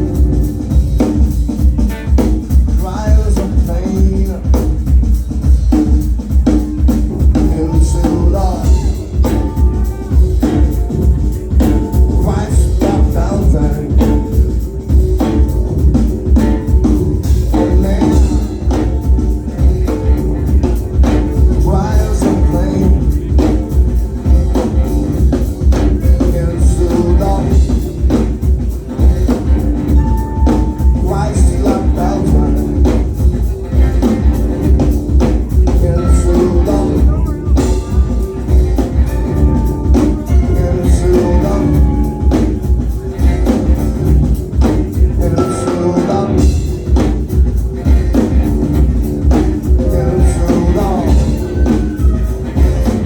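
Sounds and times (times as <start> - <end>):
heavy bass: 0.0 - 53.0
live band music: 0.0 - 53.0
loud drum groove: 0.0 - 53.0.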